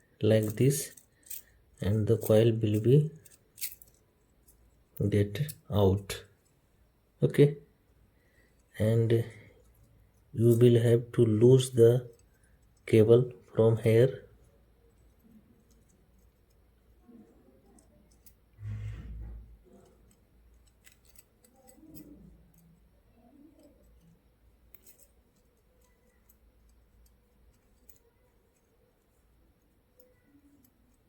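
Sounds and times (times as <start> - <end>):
faint clicks of tools and parts: 0.4 - 6.8, 7.8 - 10.6, 12.0 - 13.6, 14.3 - 31.0.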